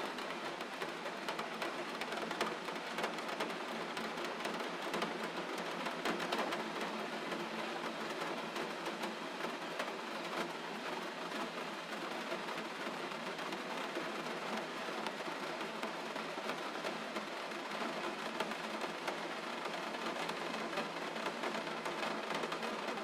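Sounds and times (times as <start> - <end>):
steady gentle rain: 0.0 - 23.0.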